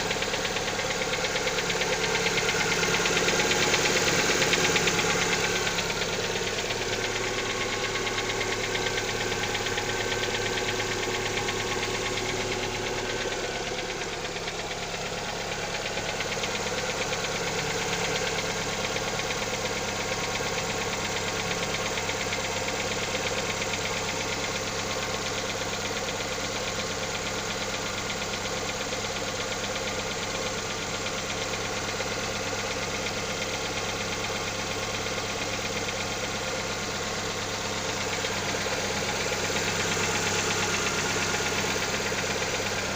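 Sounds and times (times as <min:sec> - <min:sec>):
car engine idling: 0:00.0 - 0:42.9
fast even engine knocking: 0:00.0 - 0:42.9.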